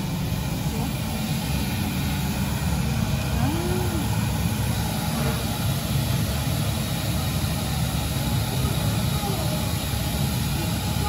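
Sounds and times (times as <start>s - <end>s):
gas furnace roaring: 0.0s - 11.0s.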